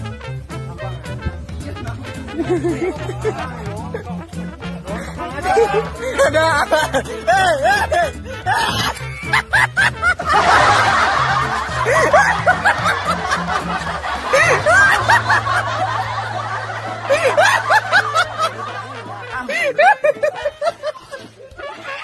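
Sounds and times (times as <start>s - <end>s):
background music with bass: 0.0s - 22.0s
people laughing and shrieking: 2.1s - 22.0s.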